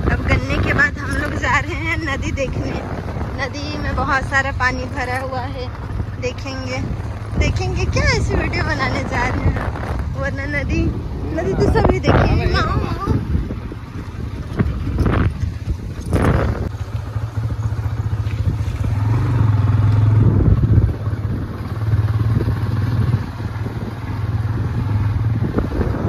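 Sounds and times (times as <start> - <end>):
motorcycle engine humming: 0.0 - 26.0.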